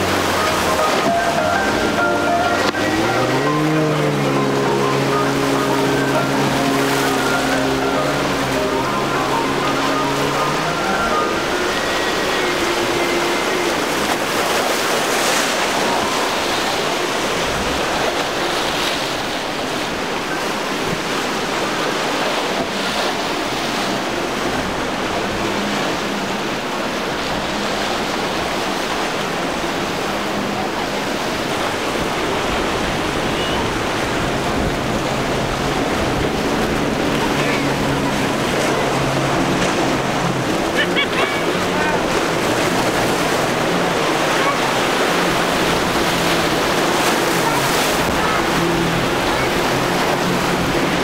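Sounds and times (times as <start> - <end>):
waves breaking in rough surf: 0.0 - 51.0.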